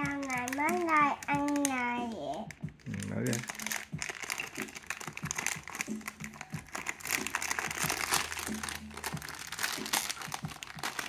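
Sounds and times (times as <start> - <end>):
background music: 0.0 - 11.0
plastic packaging crinkling: 0.0 - 11.0.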